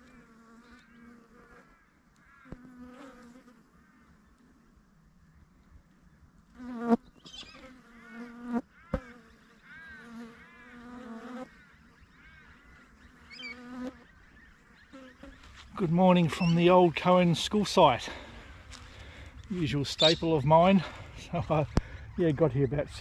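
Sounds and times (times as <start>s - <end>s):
flies buzzing: 0.0s - 5.2s, 6.4s - 22.2s.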